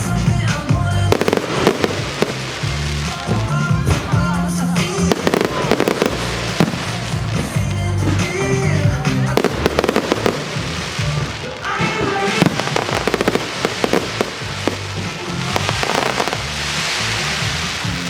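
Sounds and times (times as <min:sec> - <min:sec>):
fireworks bangs and crackles: 0:00.0 - 0:18.0
pop music with singing: 0:00.0 - 0:18.0.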